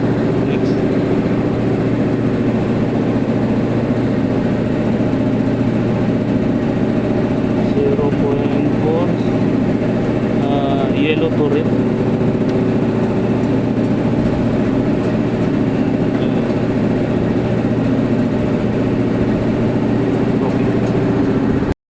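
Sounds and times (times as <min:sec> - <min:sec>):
air compressor motor humming: 0:00.0 - 0:21.7.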